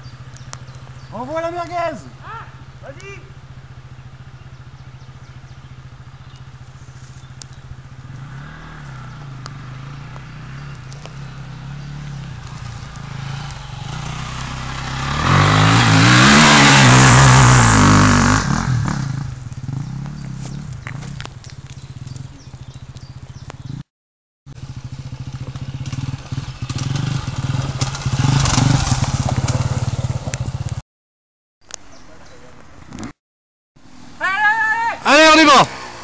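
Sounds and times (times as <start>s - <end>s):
dirt bike engines revving: 0.0s - 23.8s, 24.5s - 30.8s, 33.8s - 36.0s.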